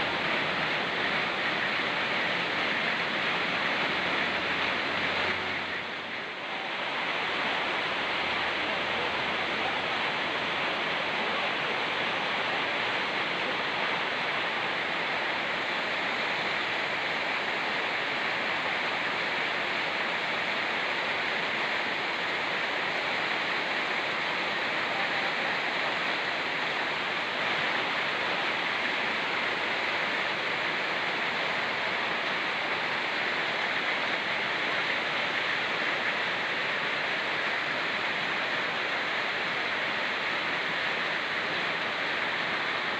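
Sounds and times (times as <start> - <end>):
fast-flowing river rushing: 0.0 - 42.9
rain falling: 0.0 - 42.9.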